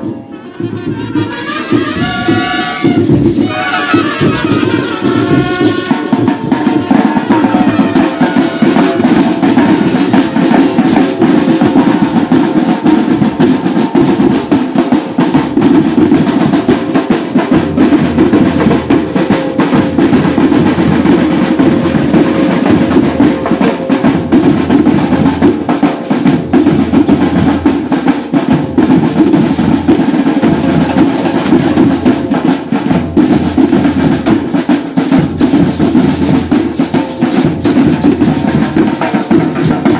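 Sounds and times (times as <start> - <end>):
pounding bass drums: 0.0 - 39.9
snare drum rolls: 0.0 - 39.9.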